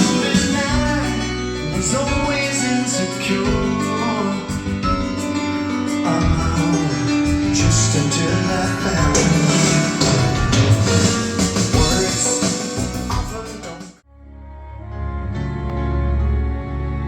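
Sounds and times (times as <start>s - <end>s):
acoustic guitar song over loudspeakers: 0.0s - 13.9s
person singing: 0.0s - 14.0s.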